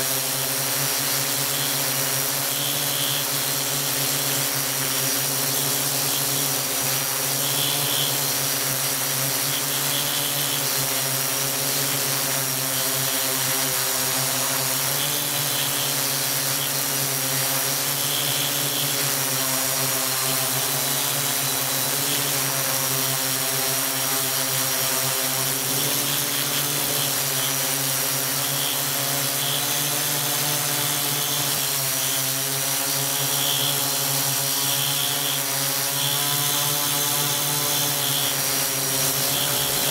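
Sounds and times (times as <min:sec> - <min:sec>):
drone motors hovering: 0:00.9 - 0:39.9.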